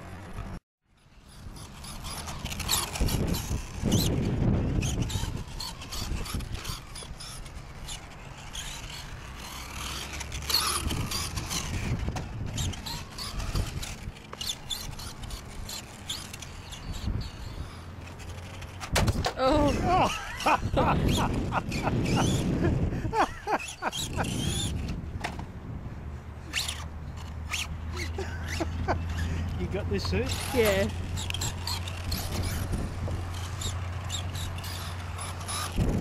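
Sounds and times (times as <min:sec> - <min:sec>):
rc truck motor whining: 0:00.0 - 0:25.4, 0:26.2 - 0:36.0.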